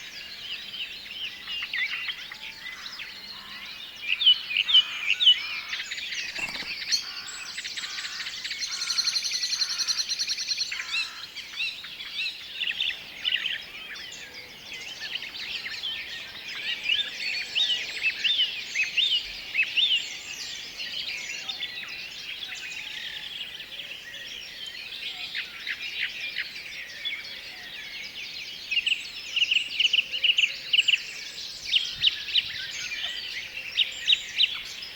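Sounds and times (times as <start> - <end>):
songbirds chirping and whistling: 0.0 - 34.9.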